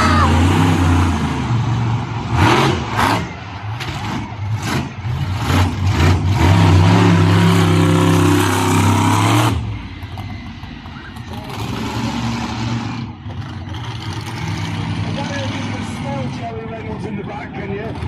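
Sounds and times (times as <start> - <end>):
racing engines revving: 0.0 - 18.0.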